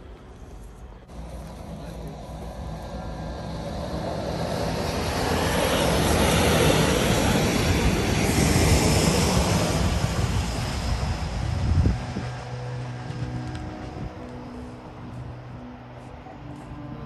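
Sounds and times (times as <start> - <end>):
diesel engine drone: 0.0 - 17.0
freight train rolling noise: 0.0 - 17.0.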